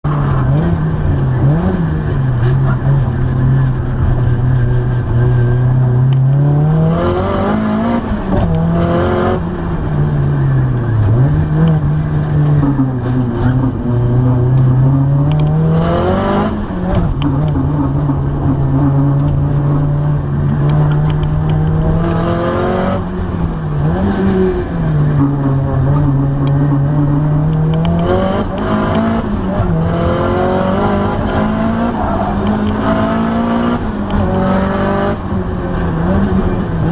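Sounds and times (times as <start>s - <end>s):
car engine droning: 0.0s - 36.9s.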